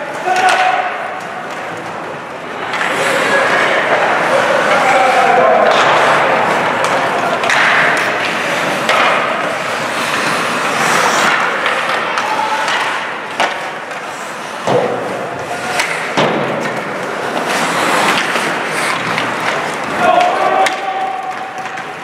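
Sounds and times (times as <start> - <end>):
skates scraping on ice: 0.0 - 22.0
sharp knocks of sticks and puck: 0.2 - 2.1, 5.6 - 22.0.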